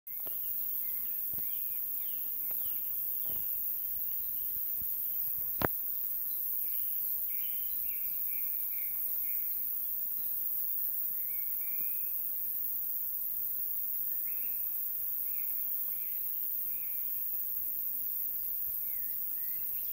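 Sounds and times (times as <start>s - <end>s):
crickets chirping: 0.1s - 19.9s.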